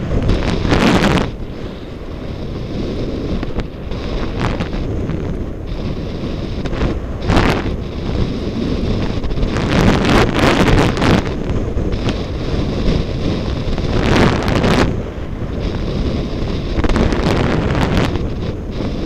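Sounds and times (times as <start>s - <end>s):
skis hissing through snow: 0.0s - 19.0s
wind buffeting microphone: 0.0s - 19.0s.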